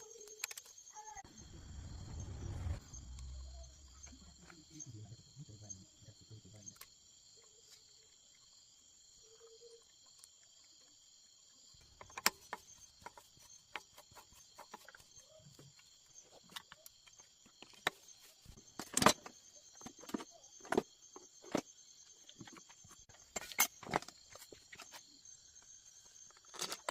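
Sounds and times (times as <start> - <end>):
insect chorus: 0.0 - 26.9.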